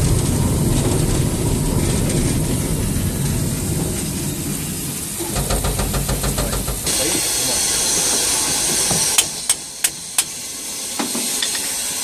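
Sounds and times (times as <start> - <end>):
wheels clickety-clack on track: 0.0 - 10.4
steam locomotive rumble: 0.0 - 12.0.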